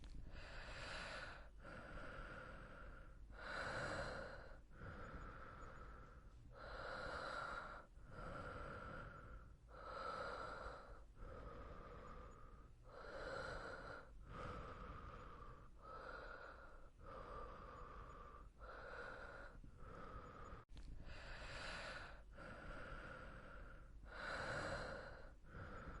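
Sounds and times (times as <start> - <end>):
person breathing slowly: 0.0 - 26.0.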